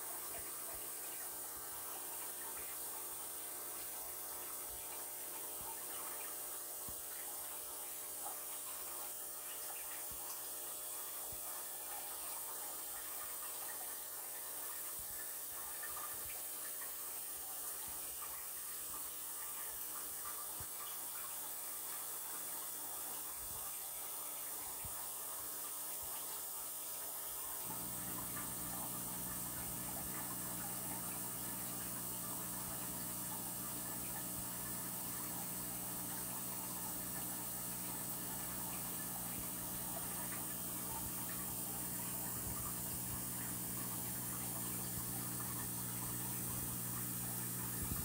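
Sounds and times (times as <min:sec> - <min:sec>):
aquarium water trickling: 0:00.0 - 0:48.0.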